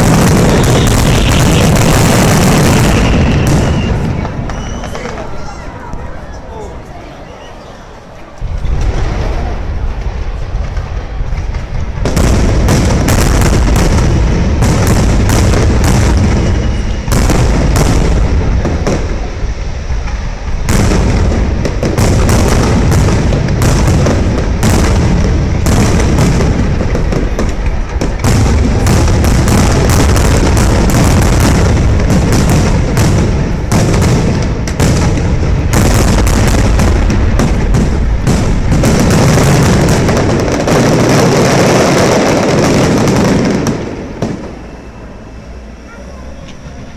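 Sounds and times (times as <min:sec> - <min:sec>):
fireworks bangs and booms: 0:00.0 - 0:07.1, 0:08.2 - 0:46.9.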